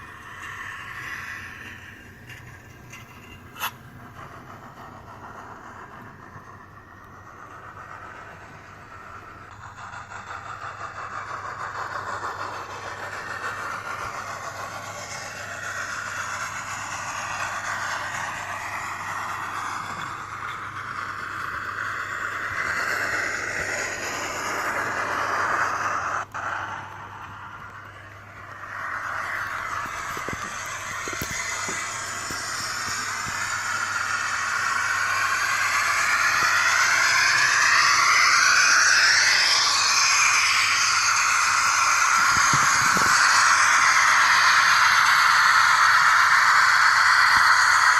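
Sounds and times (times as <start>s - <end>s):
model locomotive steam hiss: 0.0s - 47.9s.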